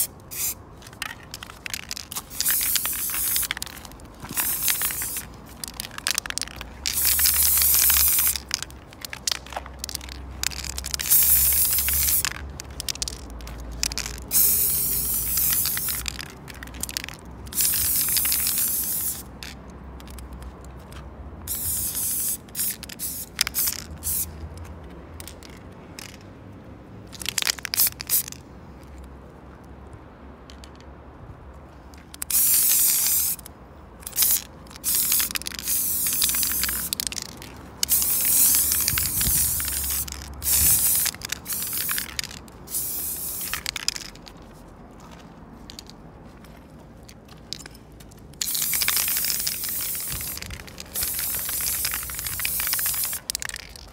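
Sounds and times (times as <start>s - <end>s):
spray paint cans hissing: 0.0s - 20.4s, 21.5s - 26.2s, 27.0s - 28.4s, 32.1s - 44.6s, 45.6s - 46.0s, 47.5s - 53.9s.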